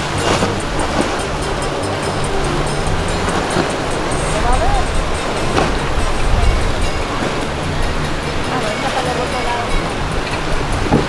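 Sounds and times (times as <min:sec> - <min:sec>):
outboard engines rumbling: 0:00.0 - 0:11.0
water rushing off hull: 0:00.0 - 0:11.0
water splash: 0:00.0 - 0:11.0.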